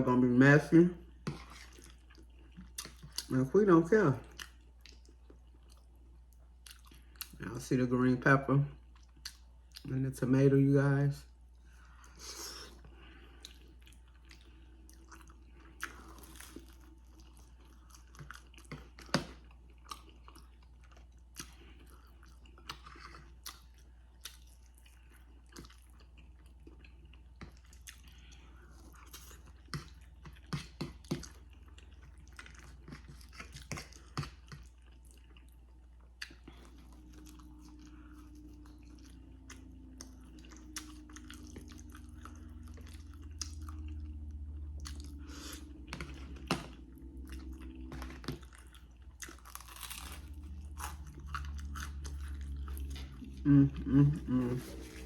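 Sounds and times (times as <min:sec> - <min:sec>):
chewing with wet mouth smacks: 0:01.2 - 0:03.4, 0:04.2 - 0:07.5, 0:08.8 - 0:09.9, 0:11.6 - 0:53.5.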